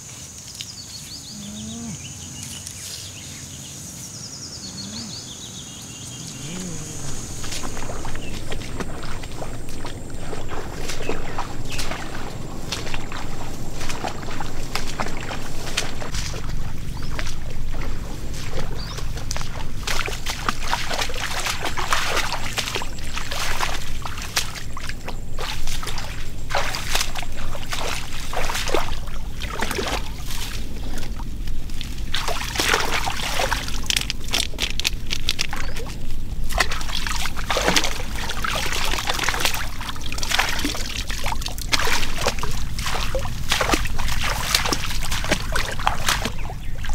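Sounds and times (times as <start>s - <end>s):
steady low rumble: 5.9s - 46.9s
water sloshing and splashing: 6.0s - 46.9s.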